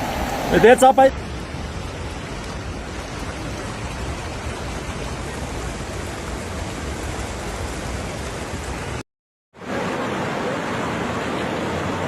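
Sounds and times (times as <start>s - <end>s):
floodwater rushing: 0.0s - 9.0s, 9.6s - 12.0s.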